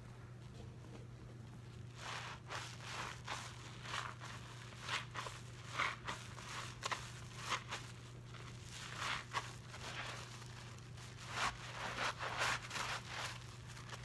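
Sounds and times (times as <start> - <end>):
soapy sponges squelching: 1.9 - 14.0.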